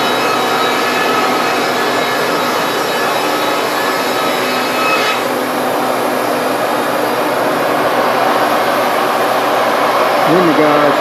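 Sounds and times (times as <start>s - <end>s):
sawmill machine running: 0.0s - 11.0s.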